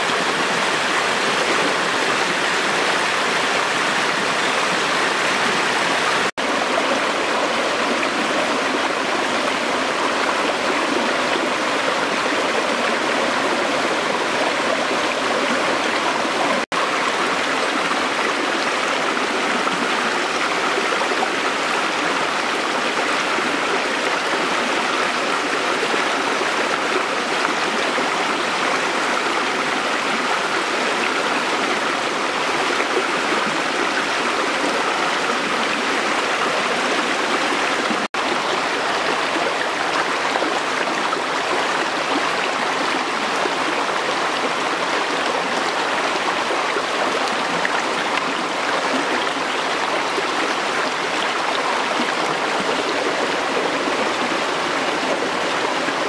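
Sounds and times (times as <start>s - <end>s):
stream water rushing over rocks: 0.0s - 56.0s.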